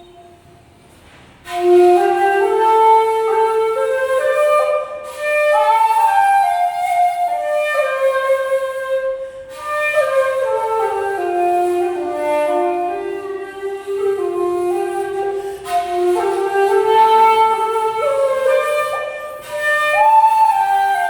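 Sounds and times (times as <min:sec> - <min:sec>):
bamboo flute slow melody: 0:00.0 - 0:00.6, 0:01.4 - 0:21.0.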